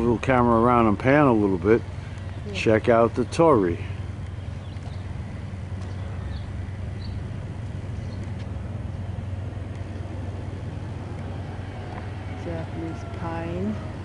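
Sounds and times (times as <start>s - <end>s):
low outdoor hum and rumble: 0.0s - 14.0s.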